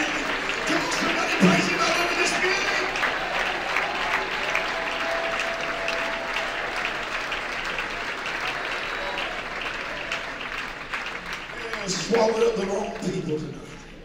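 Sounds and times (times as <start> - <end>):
congregation applauding: 0.0 - 14.0.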